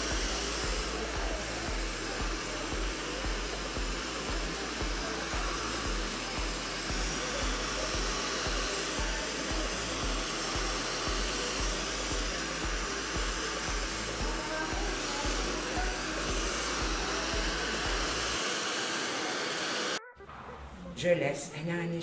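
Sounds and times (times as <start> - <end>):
music with low pulsing beat: 0.0 - 18.4
hair dryer blowing: 0.0 - 20.0.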